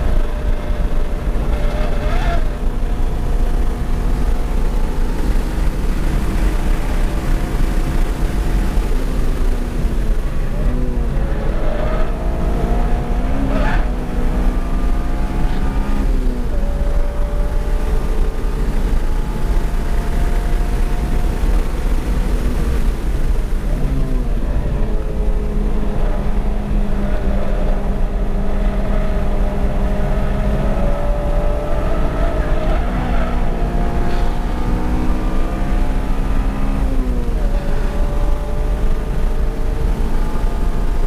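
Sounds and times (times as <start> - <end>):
car engine pulling hard: 0.0 - 41.0
road and wind rumble: 0.0 - 41.0.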